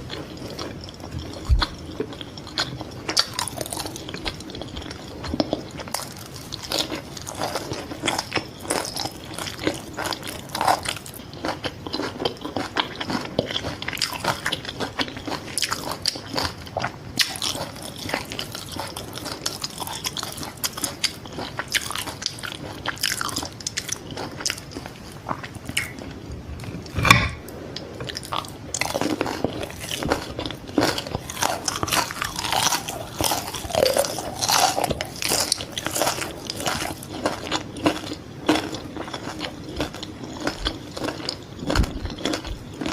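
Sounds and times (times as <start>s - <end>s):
chewing and crunching fried food: 0.0s - 42.9s.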